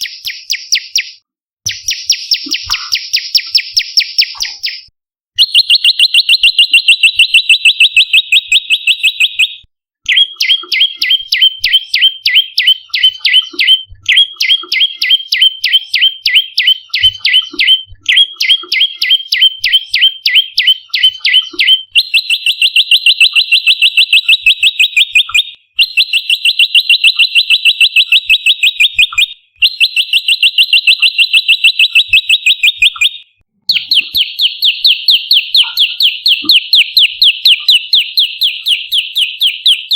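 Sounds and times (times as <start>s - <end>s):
bird calling in rapid sharp notes: 0.0s - 39.9s.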